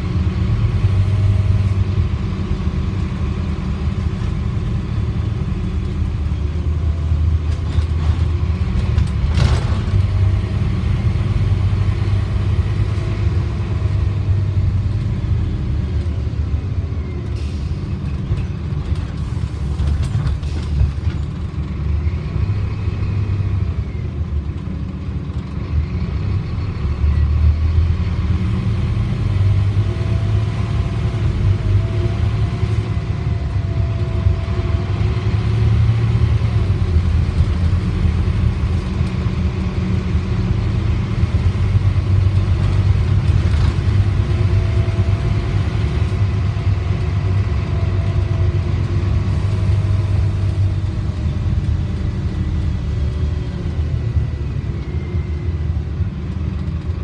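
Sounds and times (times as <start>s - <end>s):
bus engine and road rumble: 0.0s - 57.0s
faint engine whines: 0.0s - 57.0s.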